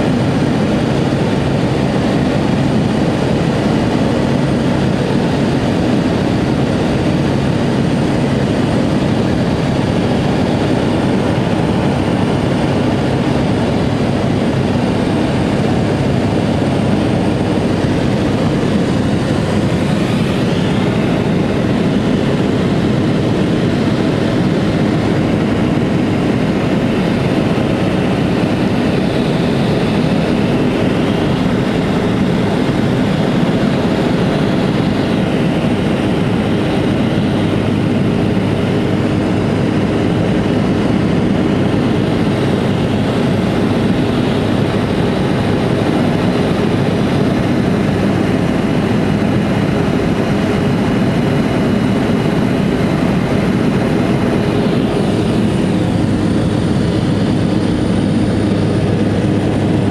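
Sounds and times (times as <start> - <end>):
airplane engine and propeller hum: 0.0 - 59.9.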